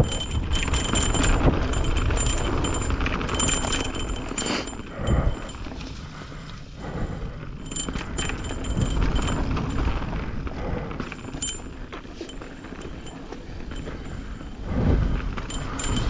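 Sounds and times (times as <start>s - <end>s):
bike rattling over bumps: 0.0s - 16.0s
wind rumbling on microphone: 0.0s - 16.0s.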